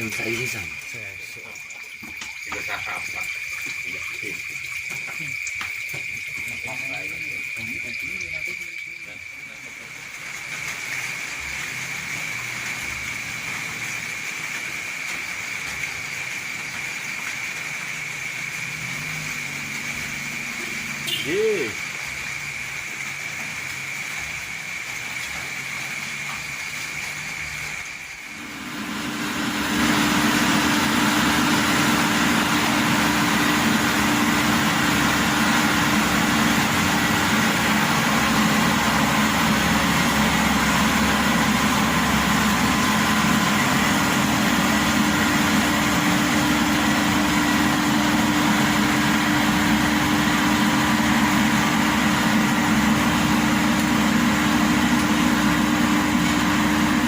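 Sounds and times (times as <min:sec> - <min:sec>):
combine harvester engine running: 0:00.0 - 0:21.2, 0:25.2 - 0:57.0.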